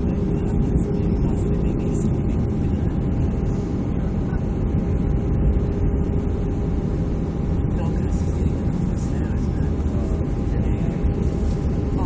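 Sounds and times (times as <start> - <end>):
airliner engines and airflow rumble: 0.0 - 12.0
steady hum tones: 0.0 - 12.0.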